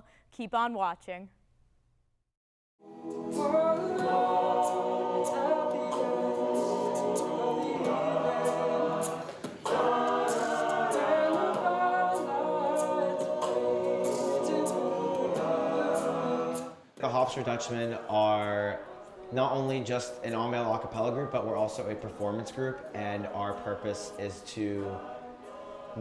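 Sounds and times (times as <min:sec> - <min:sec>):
male a cappella group singing: 0:02.8 - 0:26.0.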